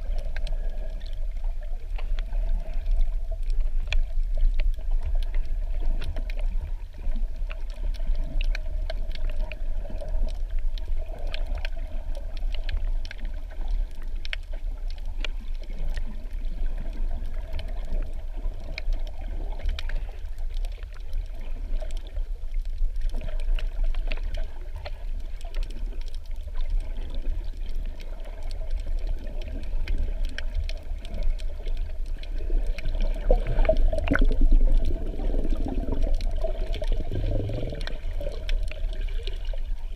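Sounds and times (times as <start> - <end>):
underwater low rumble: 0.0 - 39.9
water churning: 0.0 - 39.9
sharp underwater clicks: 7.4 - 39.7.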